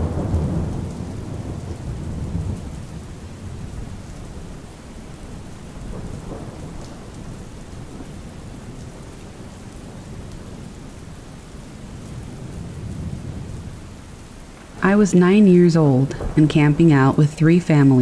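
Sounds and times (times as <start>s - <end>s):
low rumble of thunder: 0.0s - 18.0s
steady rain: 0.0s - 18.0s.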